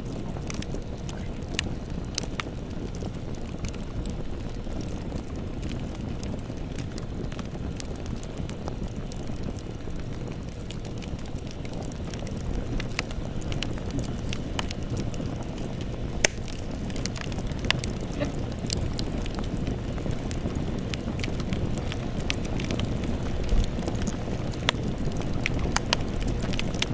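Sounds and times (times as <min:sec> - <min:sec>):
fire crackles and pops: 0:00.0 - 0:26.9
low rumble of flames: 0:00.0 - 0:26.9.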